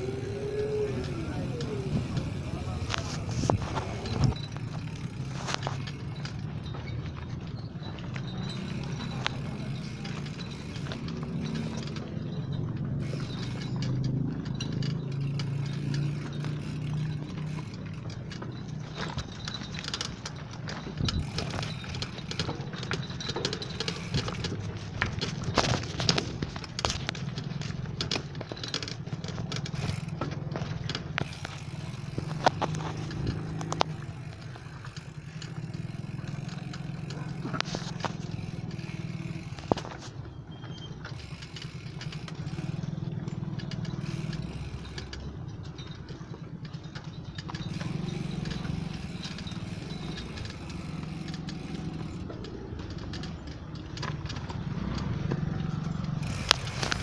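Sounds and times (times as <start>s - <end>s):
bike rumbling on rough concrete: 0.0s - 57.0s.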